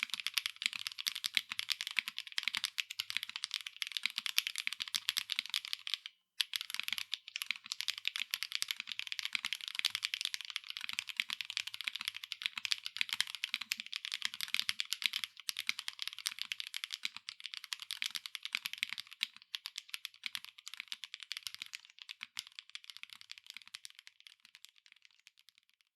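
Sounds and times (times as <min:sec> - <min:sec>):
mechanical keyboard typing: 0:00.0 - 0:25.6.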